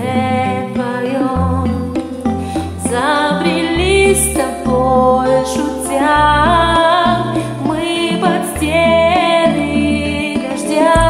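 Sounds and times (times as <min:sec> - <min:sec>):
pop ballad backing track: 0:00.0 - 0:11.0.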